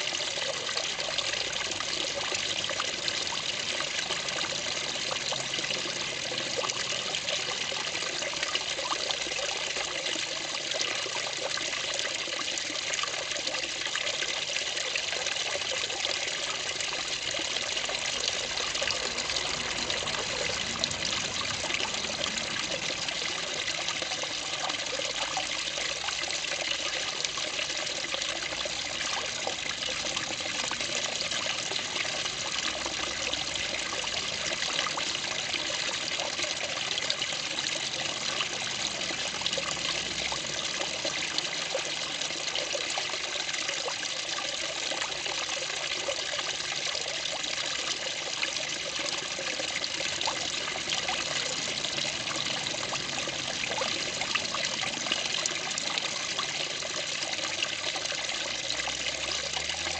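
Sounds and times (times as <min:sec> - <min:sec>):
waterfall splashing into pond: 0:00.0 - 0:59.9.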